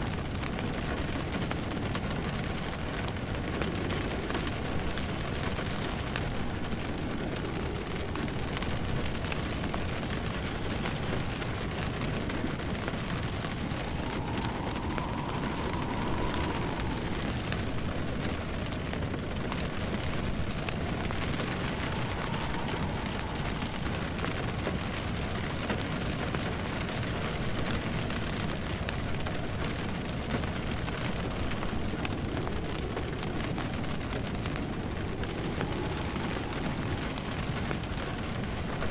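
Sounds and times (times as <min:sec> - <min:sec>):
wood fire crackling: 0:00.0 - 0:26.2, 0:29.4 - 0:38.8
faint howl of wind: 0:00.0 - 0:38.9
rain pattering: 0:00.0 - 0:38.9.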